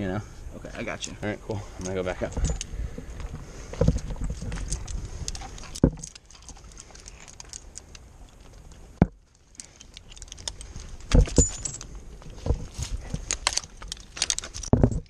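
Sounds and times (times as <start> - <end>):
metal climbing hardware clinking: 0.8 - 15.0.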